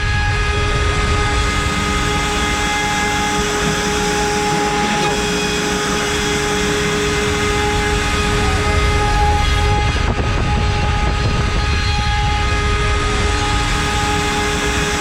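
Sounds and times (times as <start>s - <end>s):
router spindle whine: 0.0s - 15.0s
cutter milling wood: 0.7s - 15.0s.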